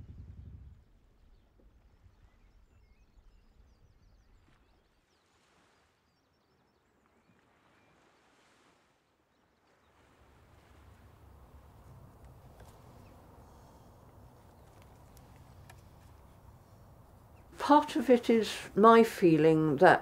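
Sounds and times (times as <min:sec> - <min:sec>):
distant birds twittering: 0:00.8 - 0:20.0.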